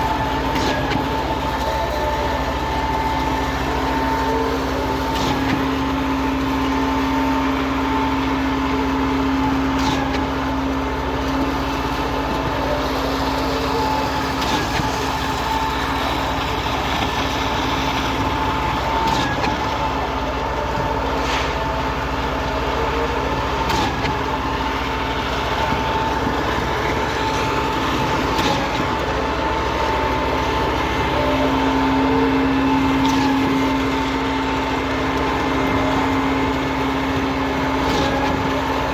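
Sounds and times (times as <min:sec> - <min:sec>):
concrete pump running: 0:00.0 - 0:38.9.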